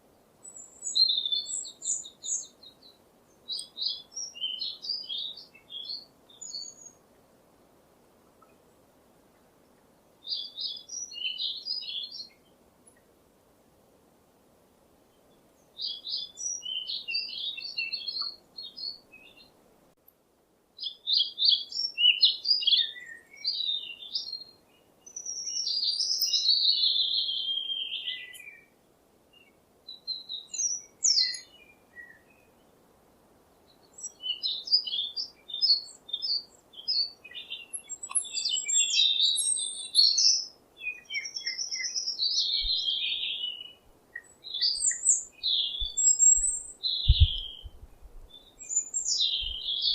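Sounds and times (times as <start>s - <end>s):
songbird singing: 0.0s - 7.3s, 8.0s - 13.1s, 15.0s - 20.1s, 20.8s - 49.9s.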